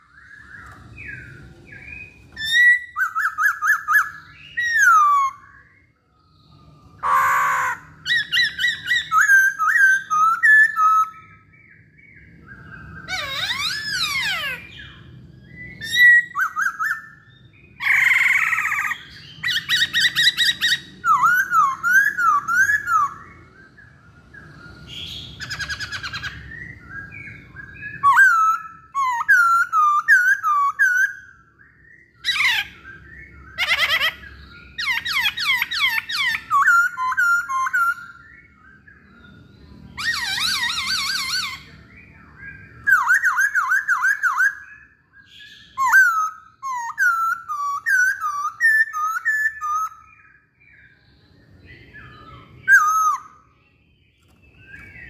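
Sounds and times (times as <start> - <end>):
bird singing whistled notes: 0.0 - 55.0
harsh rasping bird calls: 0.1 - 50.6.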